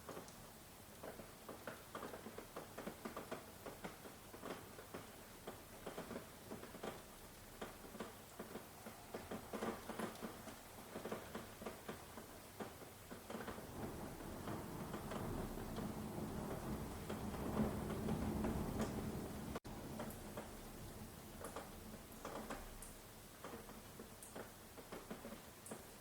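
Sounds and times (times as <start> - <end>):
rain drops hitting: 0.0 - 26.0.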